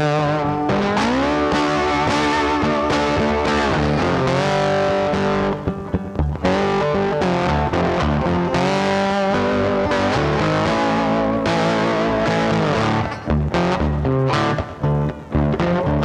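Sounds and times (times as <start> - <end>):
distorted electric guitar music: 0.0 - 16.0.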